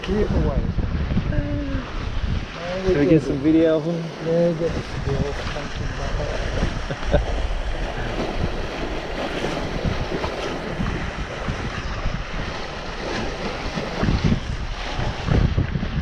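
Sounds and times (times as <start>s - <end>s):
water slapping boat hull: 0.0s - 16.0s
wind buffeting microphone: 0.0s - 16.0s.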